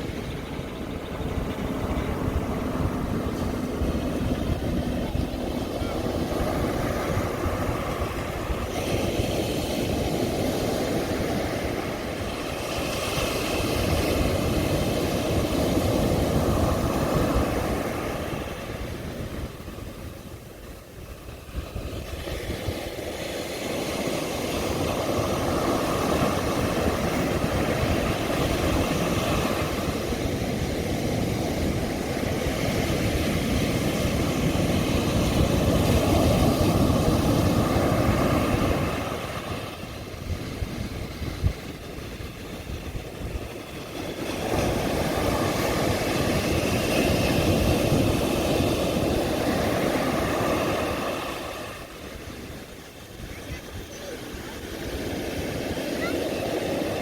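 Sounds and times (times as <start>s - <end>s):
sea surf breaking on beach: 0.0s - 57.0s.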